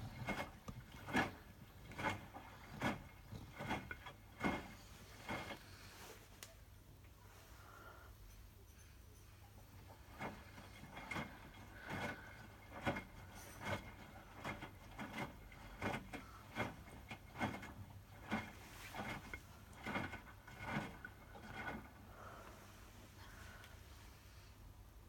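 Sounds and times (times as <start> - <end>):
washing machine drum sloshing: 0.0 - 6.1, 9.5 - 23.6.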